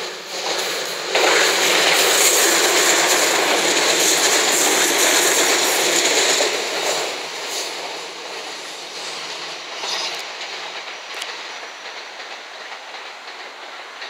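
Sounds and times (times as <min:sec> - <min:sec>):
electric train wheels rumbling: 0:00.0 - 0:14.0.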